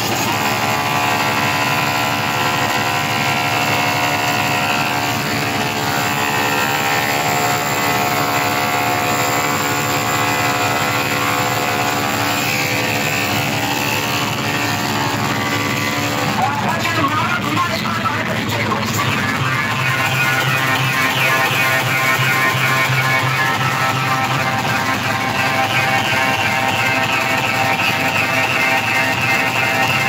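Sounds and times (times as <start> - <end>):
loud electronic drone from loudspeakers: 0.0 - 30.0.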